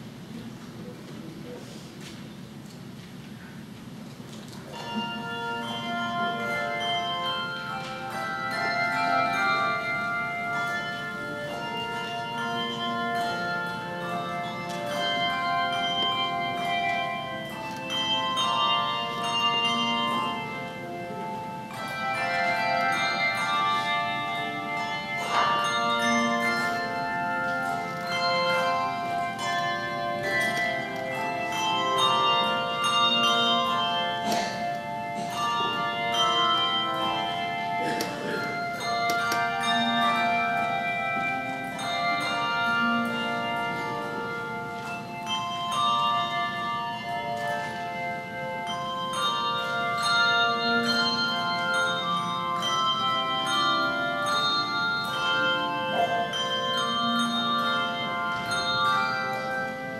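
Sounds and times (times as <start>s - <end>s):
handbell choir ringing chords: 4.3s - 59.9s.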